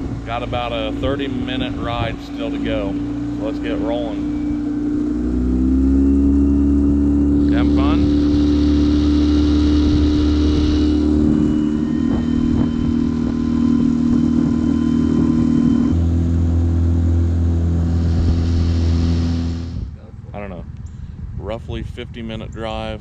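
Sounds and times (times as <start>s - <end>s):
water noise: 0.0s - 20.8s
outboard motor running: 0.0s - 21.7s
rushing wind: 0.0s - 23.0s.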